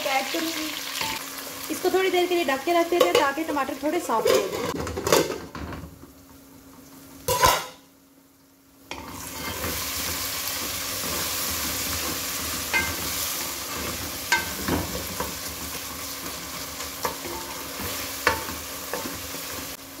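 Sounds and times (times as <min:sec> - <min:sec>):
vegetables sizzling in hot oil: 0:00.0 - 0:04.5, 0:05.8 - 0:20.0.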